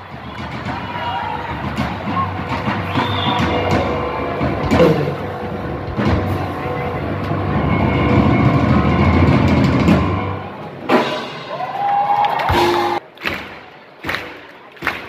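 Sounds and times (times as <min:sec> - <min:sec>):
loud show music with drums: 0:00.0 - 0:11.7, 0:12.4 - 0:13.0.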